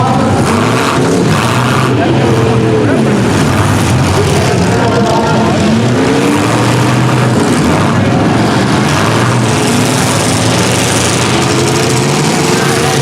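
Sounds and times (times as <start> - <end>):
vehicle engines revving: 0.0 - 13.0.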